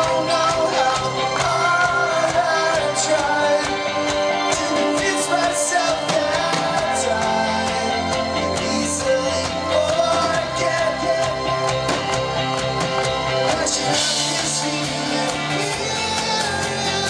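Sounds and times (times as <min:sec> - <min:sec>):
electric guitars: 0:00.0 - 0:17.0
person singing: 0:00.0 - 0:17.0
steady drum beat: 0:00.0 - 0:17.0.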